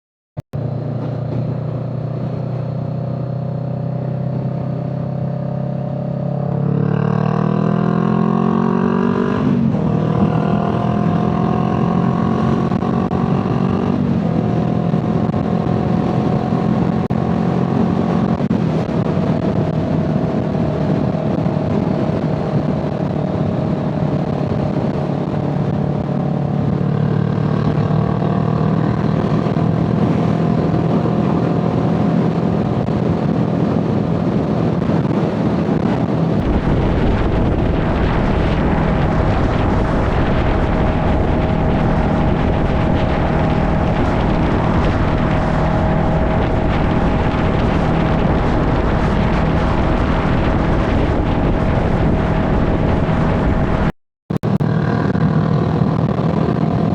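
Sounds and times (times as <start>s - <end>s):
low road rumble: 0.4s - 56.9s
vehicle engine running: 9.5s - 56.9s.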